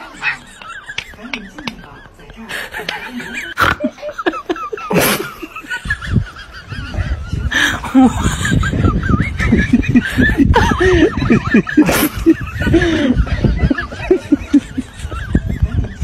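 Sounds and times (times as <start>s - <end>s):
person laughing in snickers: 0.0s - 16.0s.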